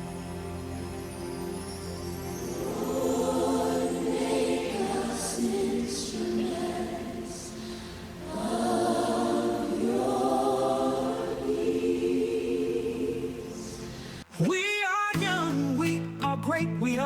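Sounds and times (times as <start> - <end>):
choir singing in harmony: 0.0 - 14.2.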